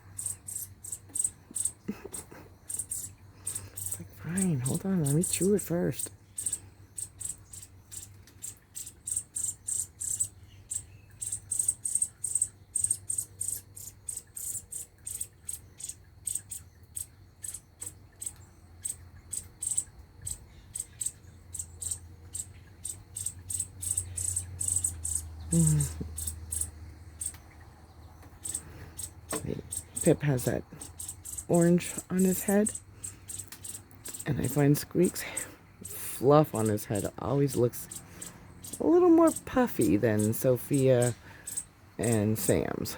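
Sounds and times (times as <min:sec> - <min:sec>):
young bird chirping: 0:00.0 - 0:42.7.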